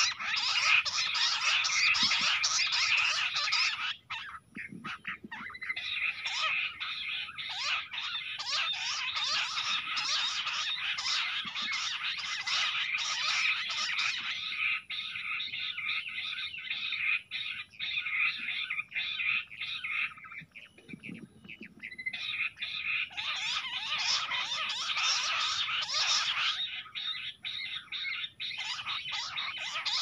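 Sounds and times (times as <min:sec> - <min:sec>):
quails whistled chattering: 0:00.0 - 0:30.0.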